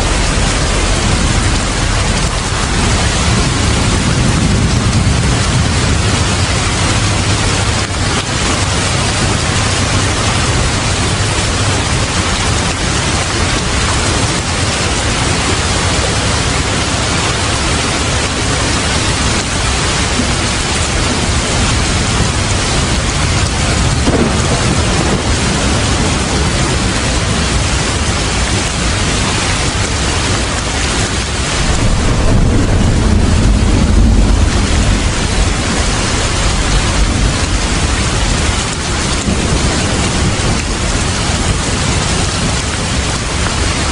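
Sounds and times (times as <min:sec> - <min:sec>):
heavy rain: 0:00.0 - 0:43.9
low rumble of thunder: 0:00.0 - 0:43.9.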